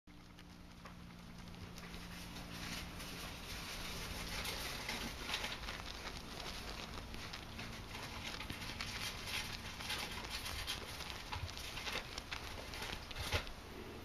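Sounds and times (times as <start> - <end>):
hamster gnawing cloth: 0.1 - 13.7.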